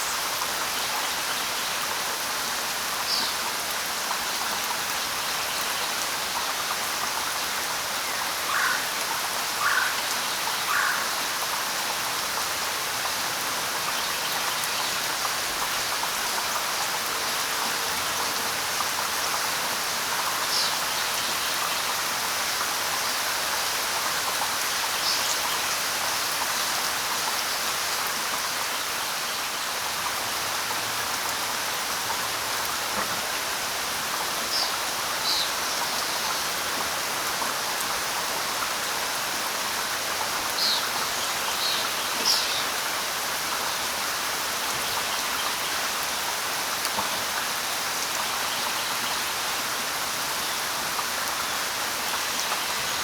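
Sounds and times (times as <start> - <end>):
light rain falling: 0.0 - 53.0.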